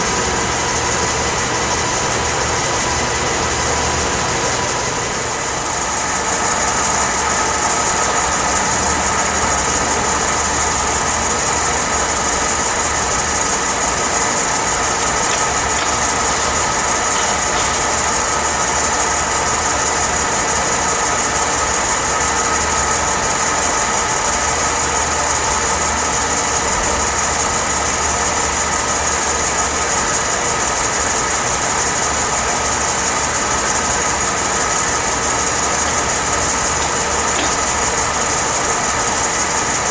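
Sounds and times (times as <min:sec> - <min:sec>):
lathe running with whine: 0:00.0 - 0:39.9.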